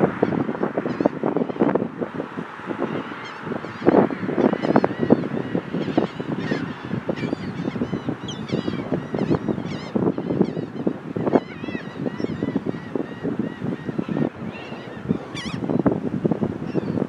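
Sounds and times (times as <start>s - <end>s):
seagulls squawking: 0.2s - 1.7s, 2.8s - 15.9s.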